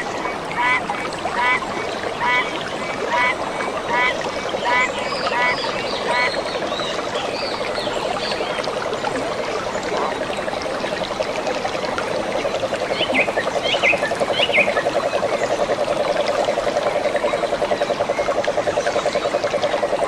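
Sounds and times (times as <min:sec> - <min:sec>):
frogs calling: 0:00.0 - 0:11.4, 0:12.0 - 0:20.0
stream water trickling: 0:00.0 - 0:20.0.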